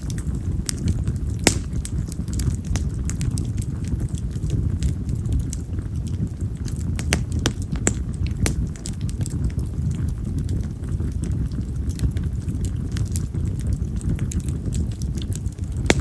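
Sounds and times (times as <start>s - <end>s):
open fire crackling and popping: 0.0s - 16.0s.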